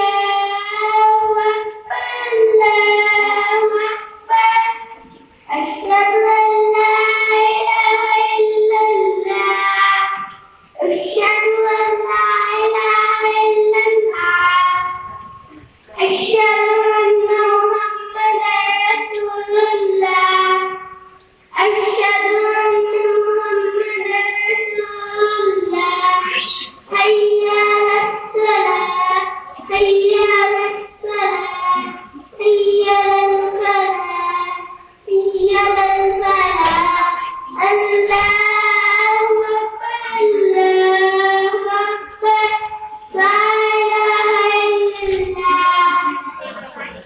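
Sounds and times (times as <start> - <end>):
boy chanting call to prayer: 0.0 - 47.0.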